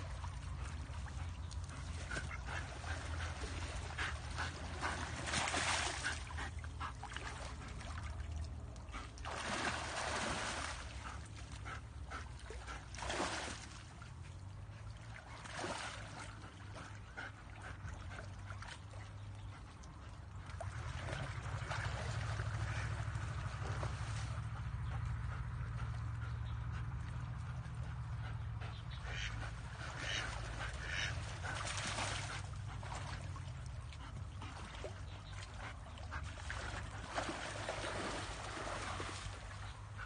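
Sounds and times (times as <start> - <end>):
steady low rumble: 0.0 - 13.0, 16.0 - 40.0
water splashing: 0.0 - 19.1, 20.5 - 25.3, 29.1 - 40.0.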